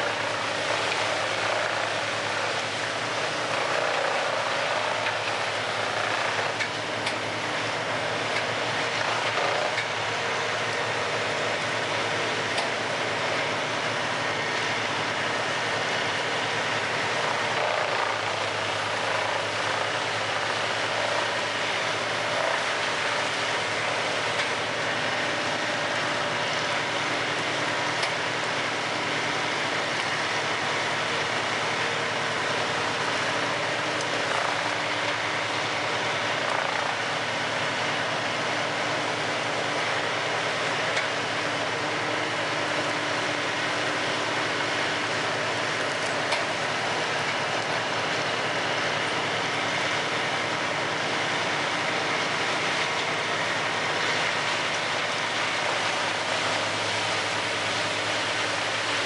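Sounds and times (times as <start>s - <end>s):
wood chipper machinery drone: 0.0s - 59.0s.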